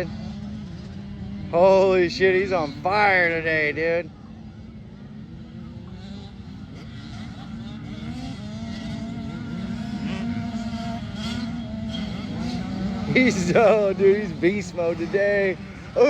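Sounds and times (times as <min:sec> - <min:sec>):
motocross bikes racing: 0:00.0 - 0:16.0.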